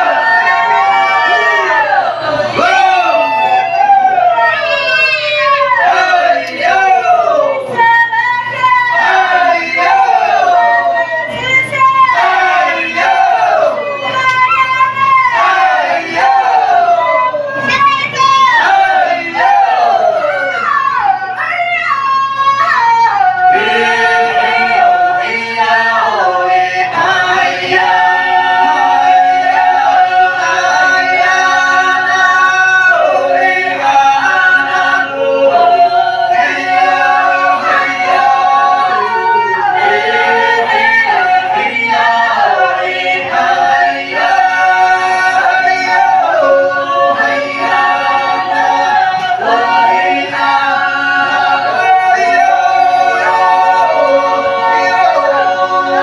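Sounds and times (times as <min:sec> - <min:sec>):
group singing in harmony: 0:00.0 - 0:56.0.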